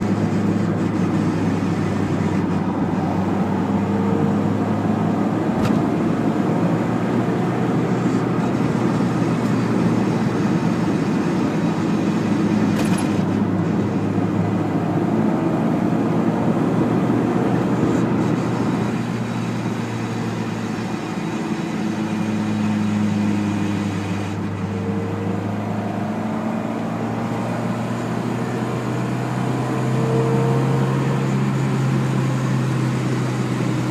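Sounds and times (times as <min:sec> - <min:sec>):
car engine and drivetrain drone: 0:00.0 - 0:33.9.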